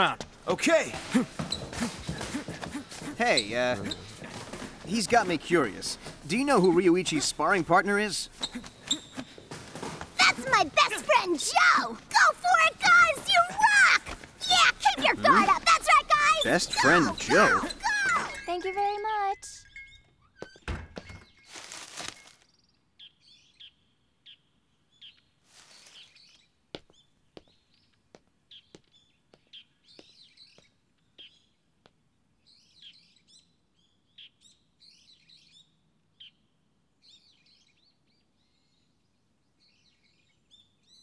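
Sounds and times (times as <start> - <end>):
faint small birds twittering: 0.0 - 9.6, 10.2 - 41.0.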